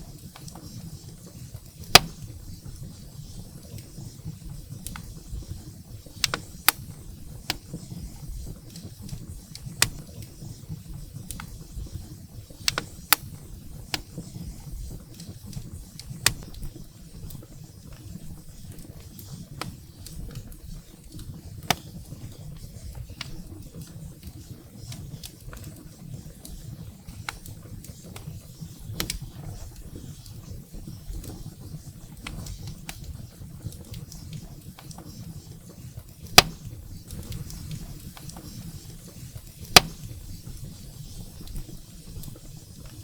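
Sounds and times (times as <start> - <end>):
firewood crackles and pops: 0.0 - 43.0
low rumble of flames: 0.0 - 43.0.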